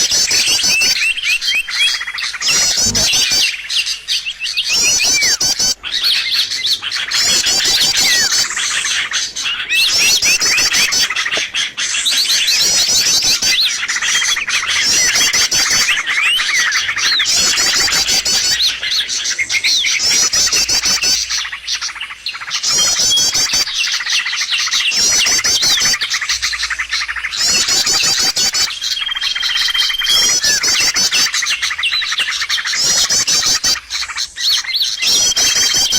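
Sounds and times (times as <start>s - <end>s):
rapid high bird trill: 0.0s - 35.9s
small songbirds chirping: 0.0s - 35.9s.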